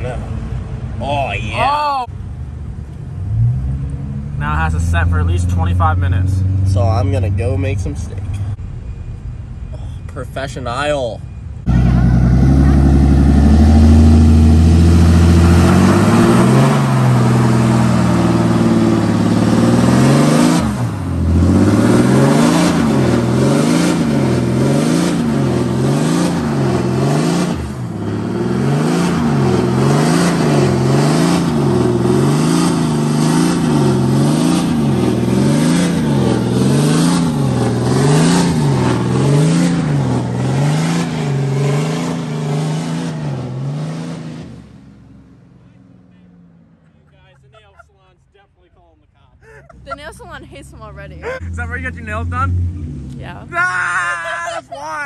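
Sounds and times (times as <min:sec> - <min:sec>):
diesel engine revving: 0:03.1 - 0:08.6, 0:11.6 - 0:46.8, 0:49.4 - 0:55.0.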